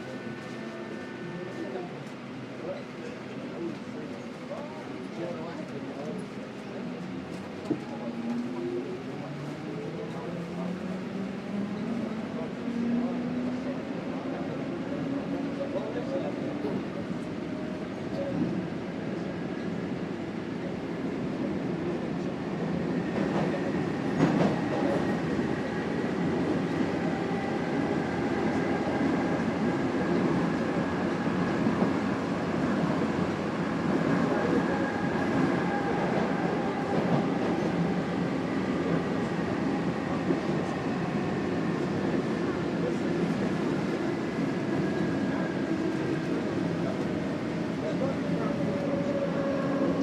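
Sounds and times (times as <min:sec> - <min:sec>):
subway train rumble: 0:00.0 - 0:50.0.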